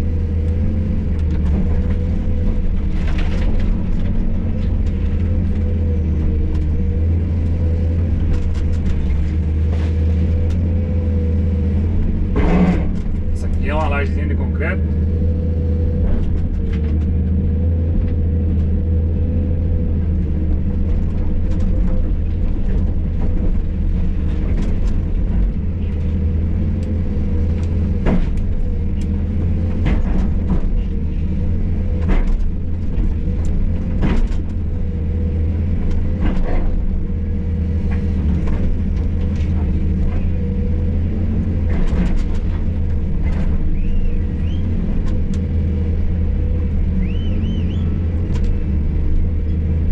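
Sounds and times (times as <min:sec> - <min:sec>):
engine whine: 0:00.0 - 0:49.9
excavator diesel engine running: 0:00.0 - 0:49.9.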